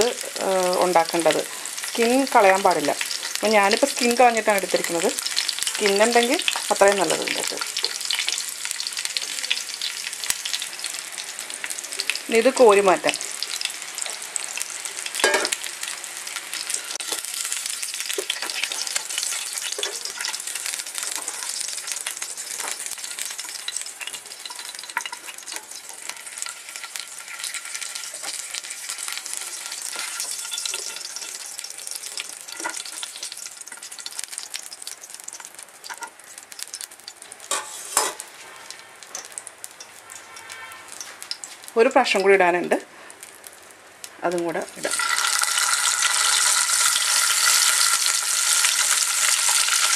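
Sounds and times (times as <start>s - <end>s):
chicken sizzling in hot oil: 0.0s - 49.9s.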